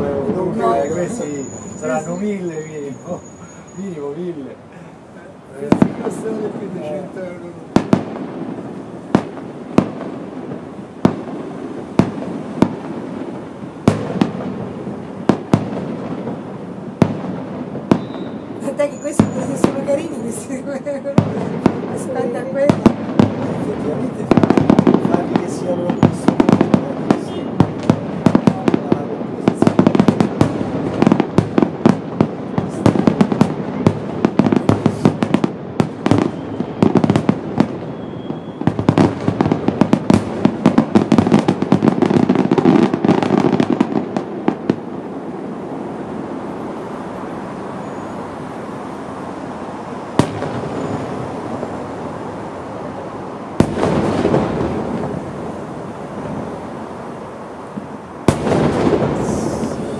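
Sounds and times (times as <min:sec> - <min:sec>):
fireworks bangs and crackle: 0:00.0 - 0:59.9
fireworks rolling rumble: 0:00.0 - 0:59.9.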